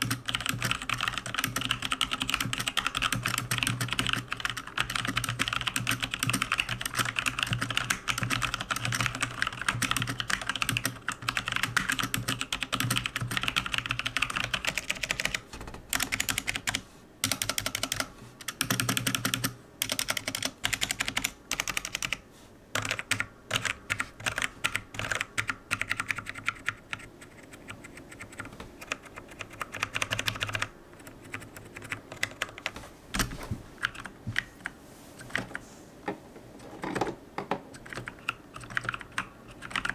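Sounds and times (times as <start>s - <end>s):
mechanical keyboard typing: 0.0s - 22.2s, 22.8s - 35.6s, 37.7s - 39.9s.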